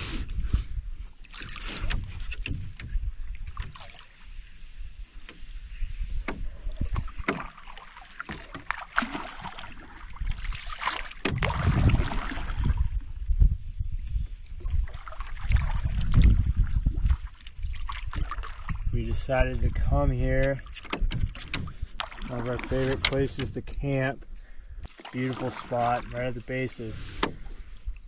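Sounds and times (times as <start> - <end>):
paddle splashing in water: 0.0 - 13.2, 14.5 - 18.9, 19.7 - 24.2, 24.9 - 28.0.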